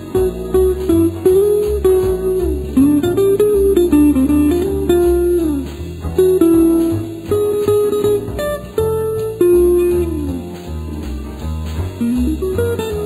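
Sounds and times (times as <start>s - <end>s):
bass line: 0.0s - 13.0s
plucked melody with pitch bends: 0.0s - 13.0s.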